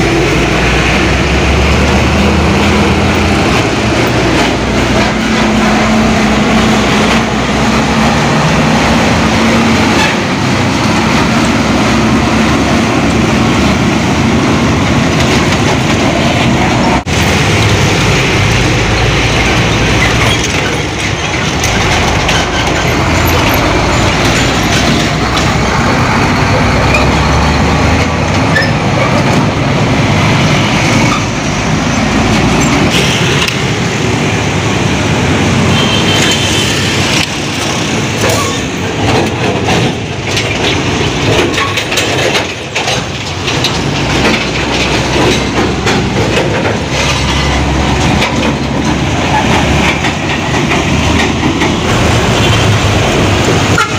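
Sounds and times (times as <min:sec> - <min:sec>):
engine and tyre noise: 0:00.0 - 0:53.9
trucks passing: 0:00.0 - 0:53.9.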